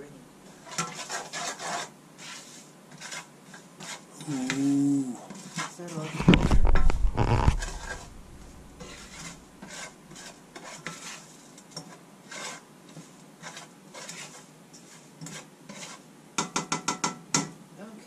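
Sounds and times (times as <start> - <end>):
spatula scraping a frying pan: 0.5 - 16.9.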